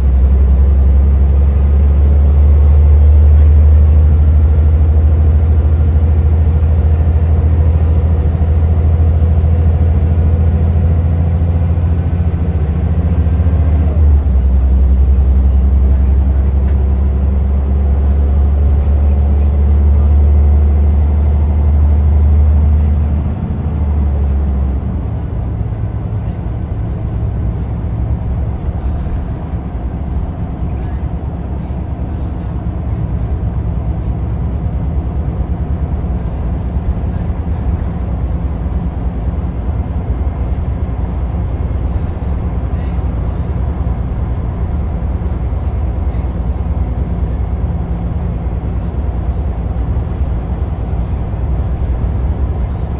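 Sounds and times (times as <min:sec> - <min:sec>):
bus diesel engine droning: 0:00.0 - 0:52.9.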